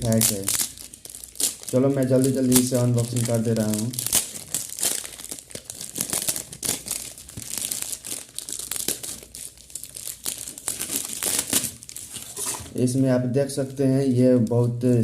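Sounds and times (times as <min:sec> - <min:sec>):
packaging tearing: 0:00.0 - 0:12.7
packaging crinkling and crackling: 0:00.0 - 0:12.8.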